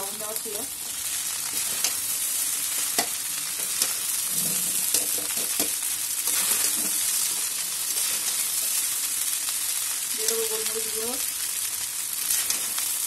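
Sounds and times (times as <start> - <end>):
rice sizzling in a pan: 0.0 - 13.0.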